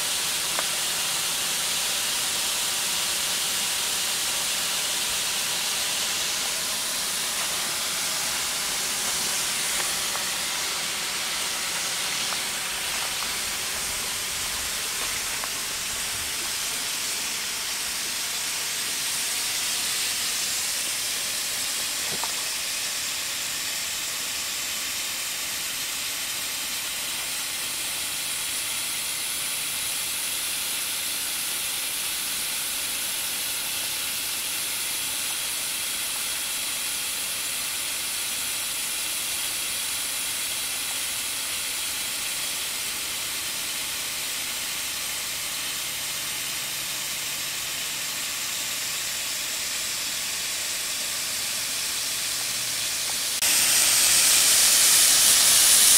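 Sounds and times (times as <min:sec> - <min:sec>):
snowmaking gun hissing: 0:00.0 - 0:55.9.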